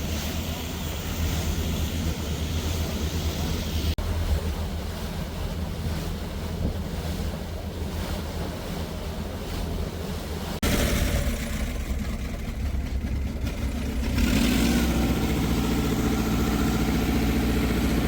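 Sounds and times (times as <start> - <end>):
boat engine drone: 0.0 - 18.0
rushing water: 0.0 - 18.0.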